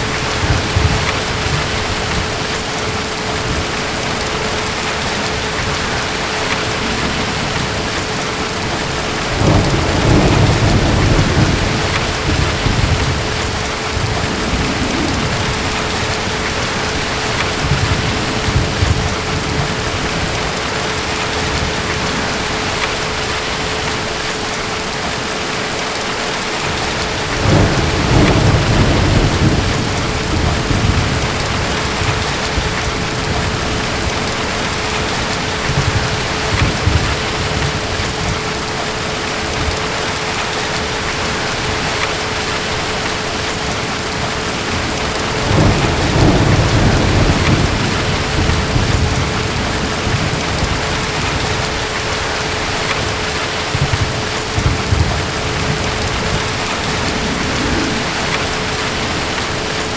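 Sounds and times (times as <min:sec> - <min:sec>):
deep thunder rumbling: 0:00.0 - 0:25.5, 0:26.6 - 0:59.9
heavy rain: 0:00.0 - 0:59.9.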